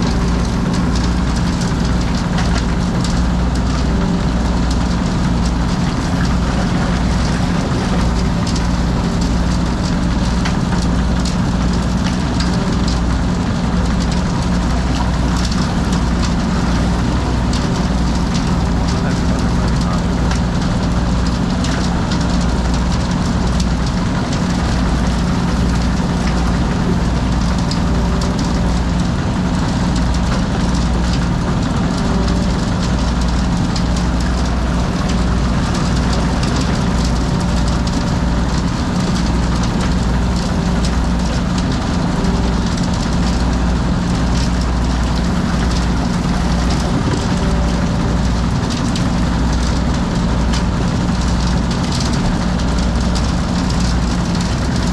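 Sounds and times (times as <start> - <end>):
heavy drilling machinery hum: 0.0 - 54.9.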